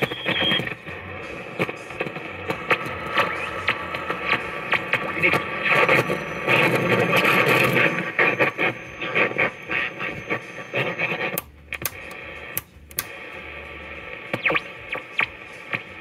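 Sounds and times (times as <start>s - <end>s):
radio knobs scratching: 0.0s - 16.0s
radio static and crackle: 0.0s - 16.0s.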